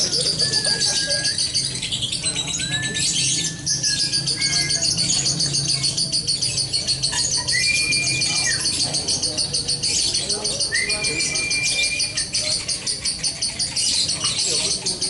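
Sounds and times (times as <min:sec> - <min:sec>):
long whistled bird notes: 0:00.0 - 0:12.6
songbirds chirping: 0:00.0 - 0:15.0.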